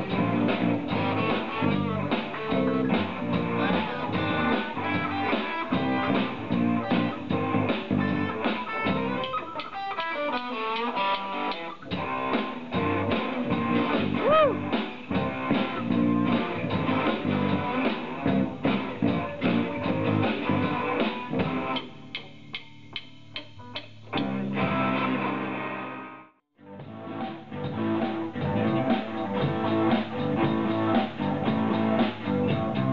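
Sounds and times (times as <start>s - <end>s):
electric guitar: 0.0s - 32.9s
rock band playing: 0.0s - 32.9s.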